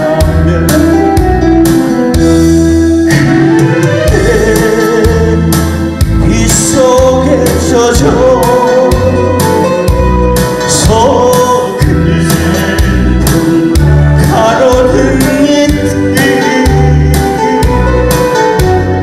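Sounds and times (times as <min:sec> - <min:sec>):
man singing into a microphone: 0:00.0 - 0:01.3, 0:03.1 - 0:19.0
instrumental accompaniment: 0:00.0 - 0:19.0
steady bass beat: 0:00.0 - 0:19.0.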